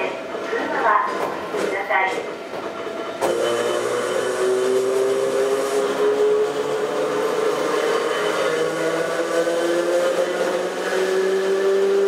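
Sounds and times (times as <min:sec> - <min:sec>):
train rail noise: 0:00.0 - 0:12.0
train motor whine: 0:01.6 - 0:12.0.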